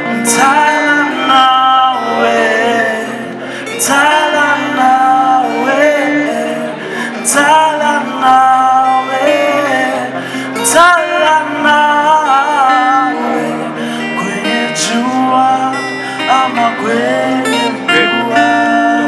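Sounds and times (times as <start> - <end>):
person singing into a microphone: 0.0 - 19.0
strummed acoustic guitar: 0.0 - 19.0.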